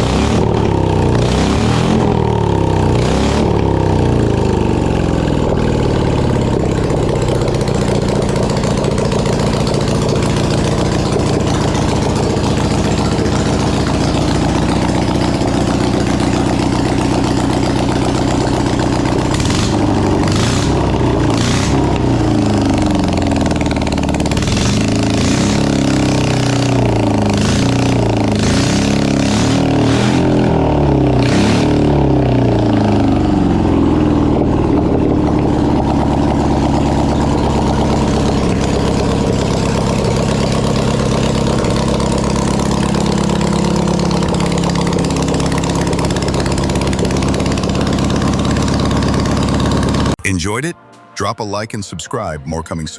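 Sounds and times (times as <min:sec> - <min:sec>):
motorcycle engine revving: 0:00.0 - 0:50.2
sharp exhaust pops: 0:00.0 - 0:50.2.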